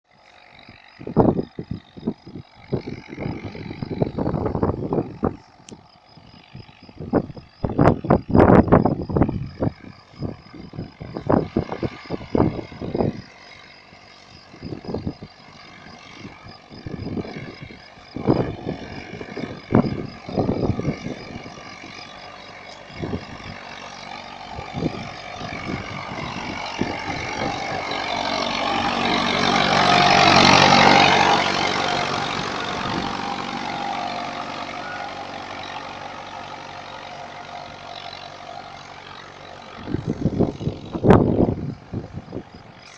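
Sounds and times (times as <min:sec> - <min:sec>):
tractor diesel engine: 0:00.1 - 0:42.9.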